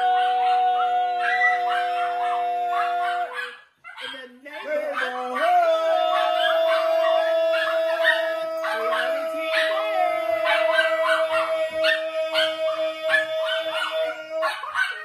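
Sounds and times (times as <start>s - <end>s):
man and woman singing: 0.0s - 3.4s, 4.0s - 14.7s.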